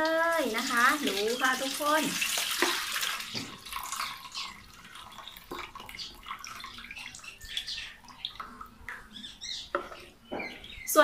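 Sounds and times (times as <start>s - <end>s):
liquid pouring into metal bowl: 0.0s - 10.9s
liquid trickling and dripping: 0.0s - 11.0s.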